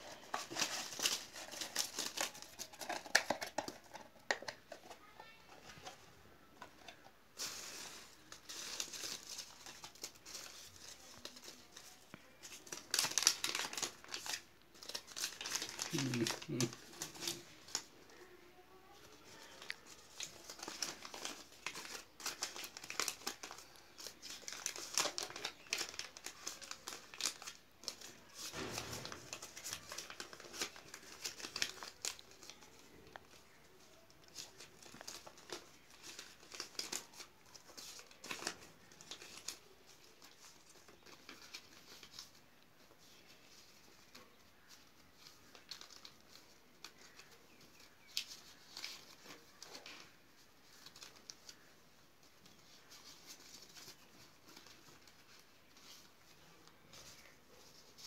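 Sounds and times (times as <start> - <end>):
paper banknotes crinkling: 0.0 - 5.0, 6.8 - 58.0.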